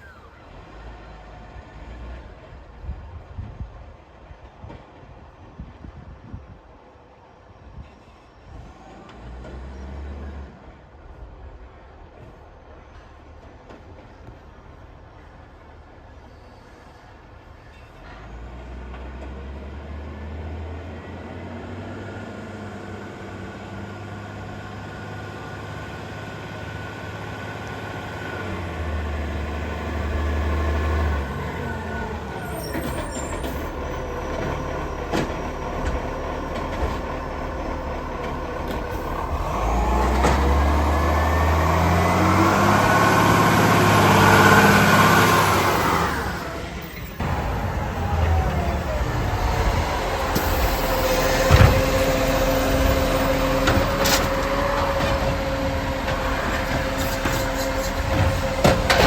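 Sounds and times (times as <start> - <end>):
garbage truck diesel engine: 0.0 - 5.2, 8.5 - 59.0.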